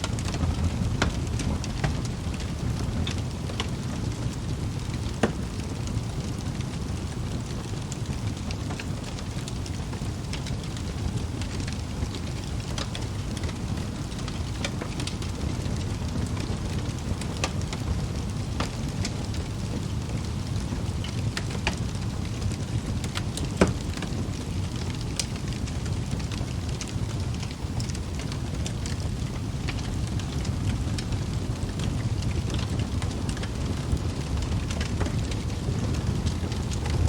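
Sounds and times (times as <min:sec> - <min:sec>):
burning logs crackling: 0:00.0 - 0:37.0
fire flames rushing: 0:00.0 - 0:37.0
fire popping: 0:00.0 - 0:37.0.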